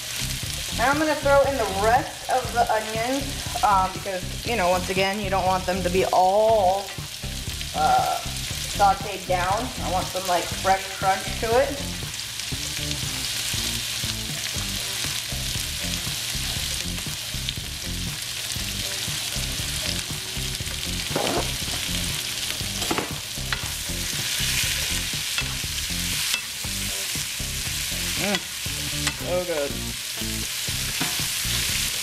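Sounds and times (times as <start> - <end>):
vegetables sizzling in a hot pan: 0.0 - 32.0.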